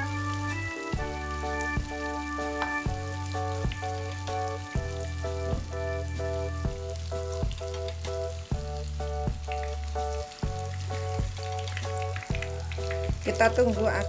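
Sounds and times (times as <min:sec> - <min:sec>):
background music with beat: 0:00.0 - 0:14.0
patties sizzling in oil: 0:00.0 - 0:14.0.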